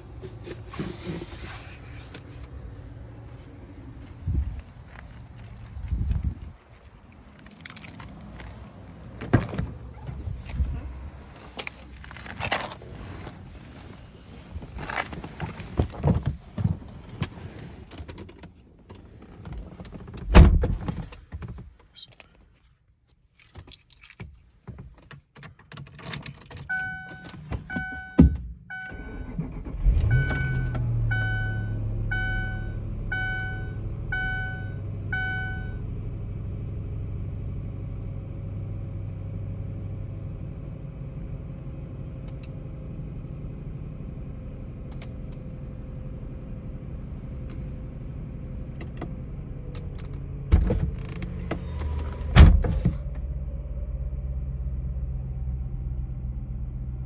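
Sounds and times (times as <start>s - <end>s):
car engine starting and idling: 0.0s - 22.6s, 23.7s - 57.0s.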